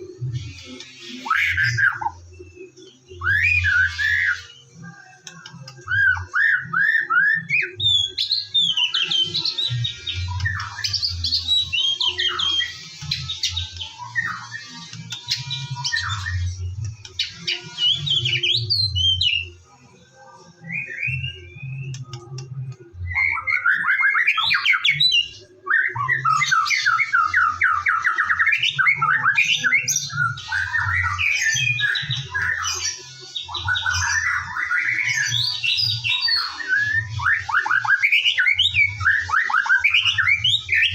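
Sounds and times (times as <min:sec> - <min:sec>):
bird singing whistles and chatter: 0:00.0 - 0:19.8, 0:20.4 - 0:40.9.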